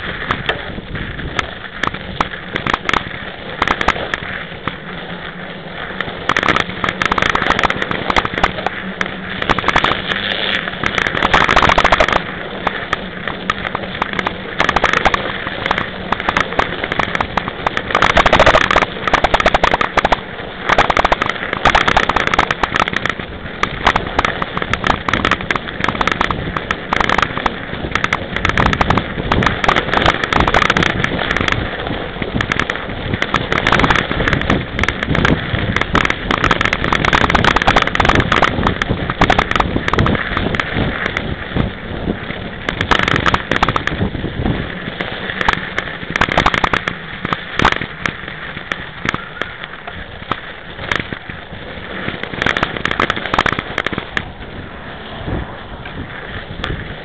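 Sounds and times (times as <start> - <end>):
bike tyre crunching over snow: 0.0 - 57.0.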